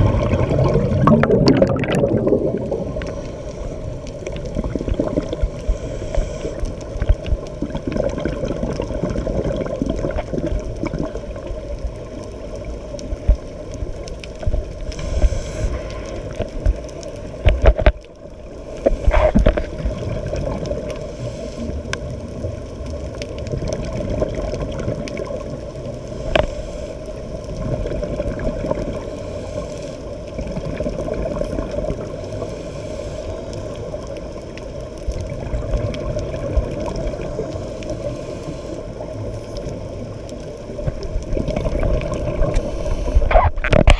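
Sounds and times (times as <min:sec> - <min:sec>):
gurgling bubbles: 0:00.0 - 0:13.5, 0:16.2 - 0:26.5, 0:27.4 - 0:29.0, 0:30.3 - 0:32.3, 0:33.8 - 0:38.2, 0:39.0 - 0:43.9
underwater rumble of moving water: 0:00.0 - 0:43.9.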